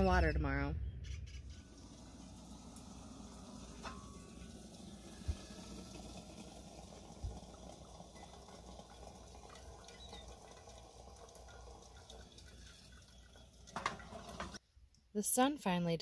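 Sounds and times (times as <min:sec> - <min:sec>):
hot water trickling onto coffee: 0:01.5 - 0:14.6.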